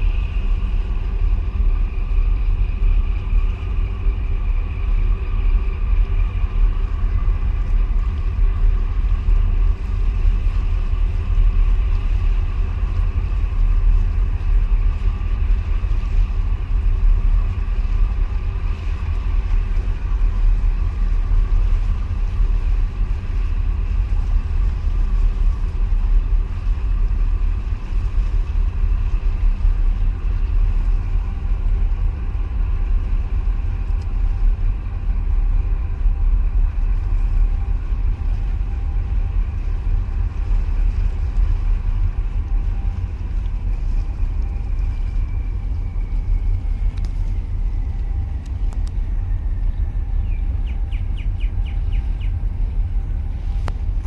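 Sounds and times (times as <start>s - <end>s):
faint engine hum: 0.0s - 54.0s
wind buffeting microphone: 0.0s - 54.0s.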